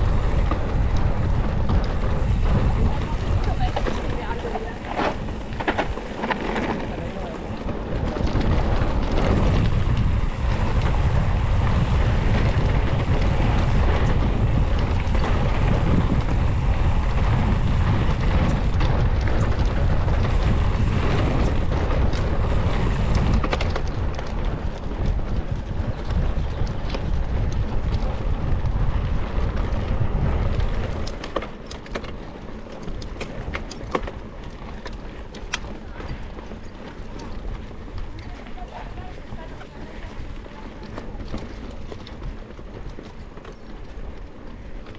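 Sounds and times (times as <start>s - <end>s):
bike clicks and rattles: 0.0s - 44.9s
wind rumbling over microphone: 0.0s - 44.9s.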